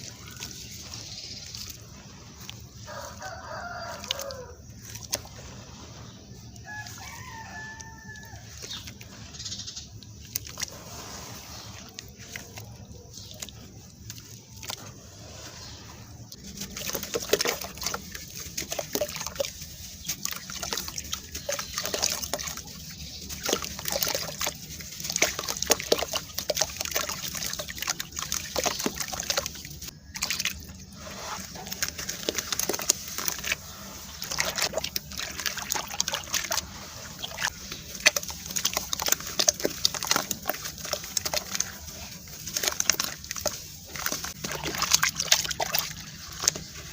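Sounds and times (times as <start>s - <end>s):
water sloshing: 0.0s - 46.9s
wet sand crunching: 0.0s - 46.9s.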